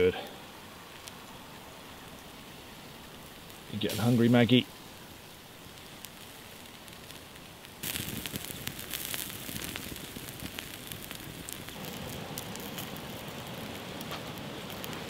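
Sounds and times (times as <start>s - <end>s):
campfire crackling: 0.0s - 15.0s
faint steady hiss: 0.0s - 15.0s
sausages sizzling on grill: 0.0s - 15.0s.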